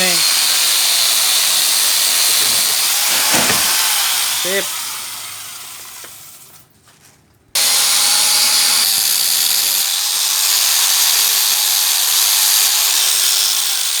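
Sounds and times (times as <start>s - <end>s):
angle grinder running: 0.0s - 6.5s, 7.6s - 14.0s.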